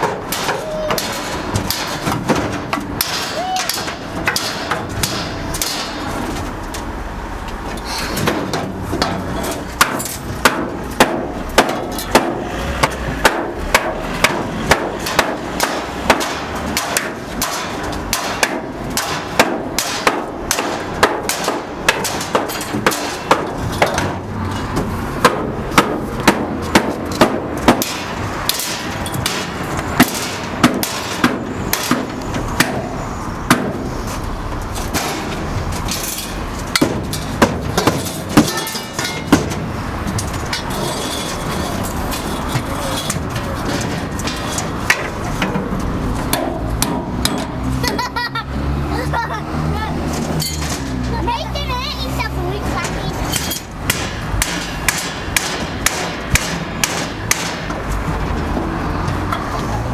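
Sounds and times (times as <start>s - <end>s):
sharp knocks and bangs: 0.0s - 51.6s, 52.2s - 59.9s
steady background noise: 0.0s - 59.9s.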